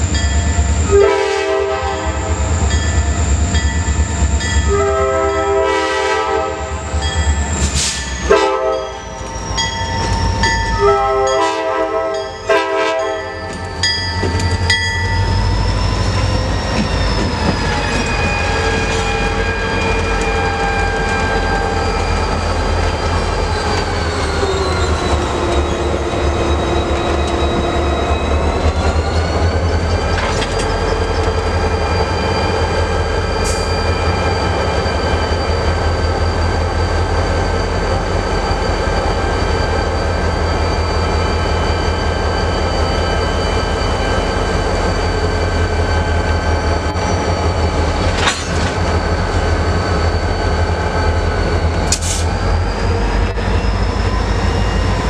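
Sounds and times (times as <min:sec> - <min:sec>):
train whine and rumble: 0:00.0 - 0:55.0.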